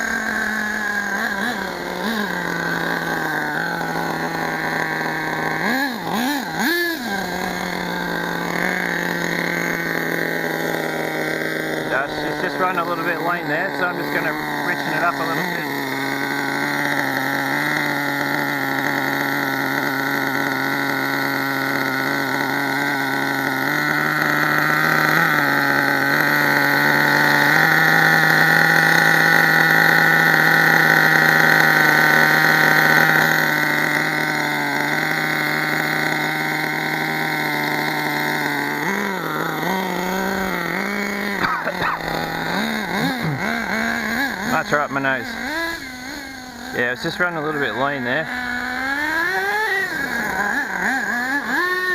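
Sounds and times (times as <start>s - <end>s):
small two-stroke engine running: 0.0s - 51.9s.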